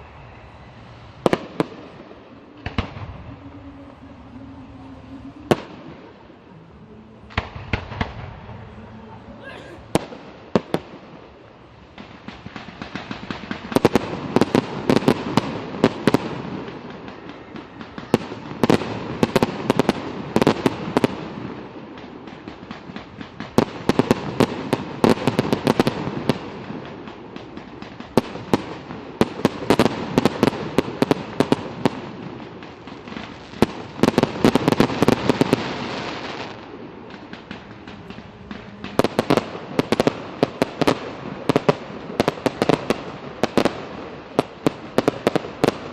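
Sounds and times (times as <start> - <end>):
fireworks bangs: 0.0 - 45.9
fireworks rumble: 0.0 - 45.9.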